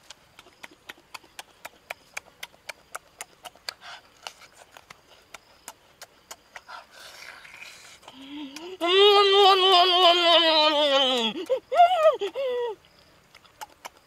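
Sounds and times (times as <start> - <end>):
open-mouthed chewing: 0.0 - 14.0.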